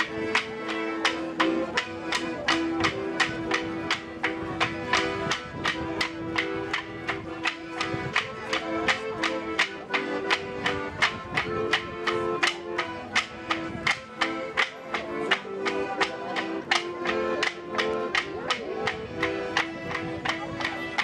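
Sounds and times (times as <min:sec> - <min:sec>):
folk dance music: 0:00.0 - 0:21.0.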